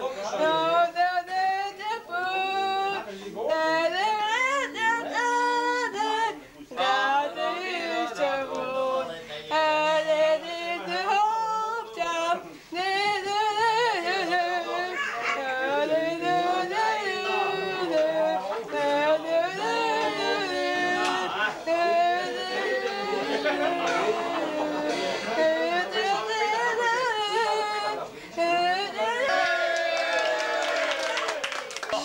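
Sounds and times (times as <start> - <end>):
person singing unaccompanied: 0.0 - 30.0.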